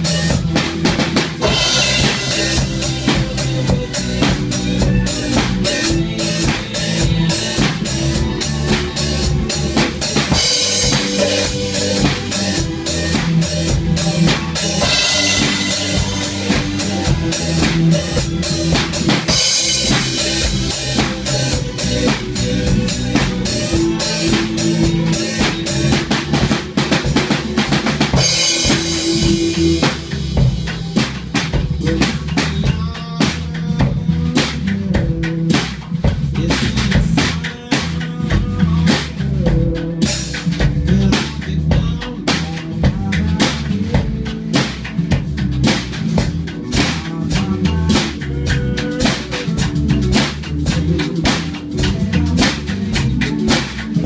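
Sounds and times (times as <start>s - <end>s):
backing song: 0.0s - 54.0s
drum kit rock beat: 0.0s - 54.0s.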